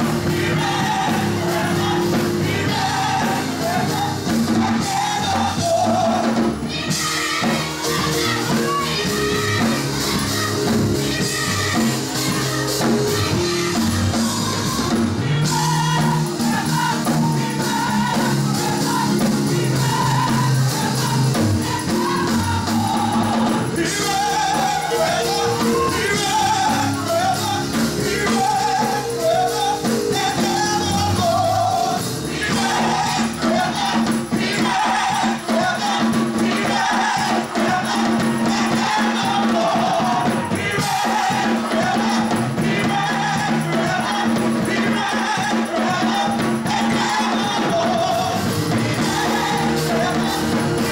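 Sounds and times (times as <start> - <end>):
gospel choir singing: 0.0 - 50.9
wavering lead vocal: 0.0 - 50.9.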